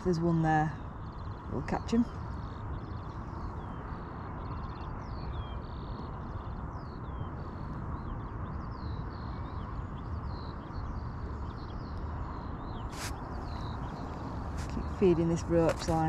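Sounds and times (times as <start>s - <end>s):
low rushing background noise: 0.0s - 16.0s
small birds singing: 0.0s - 16.0s.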